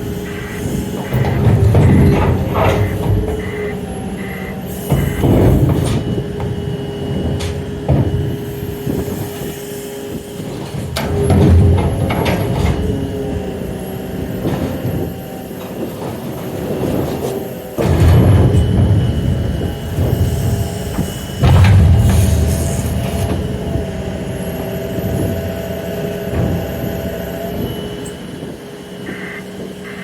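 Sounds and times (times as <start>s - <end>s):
low rumbles of train on rails: 0.0s - 30.0s
train engine tone: 0.0s - 30.0s.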